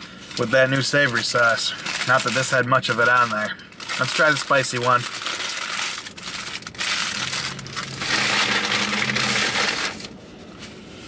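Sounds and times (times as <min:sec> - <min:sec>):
paper wrapper crinkling: 0:00.0 - 0:10.8.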